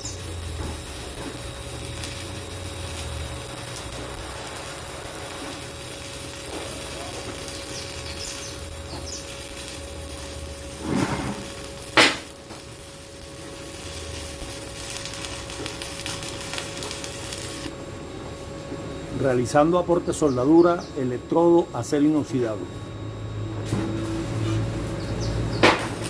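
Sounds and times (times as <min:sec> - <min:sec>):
arc welding hiss and crackle: 0:00.0 - 0:22.9, 0:23.5 - 0:26.0.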